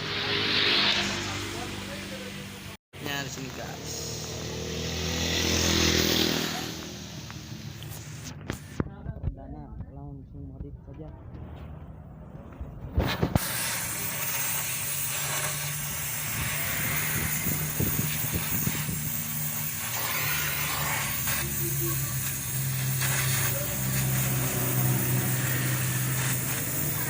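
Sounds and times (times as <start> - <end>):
vehicle engine humming: 0.0 - 13.0, 13.8 - 27.0
road and wind noise: 0.0 - 27.0.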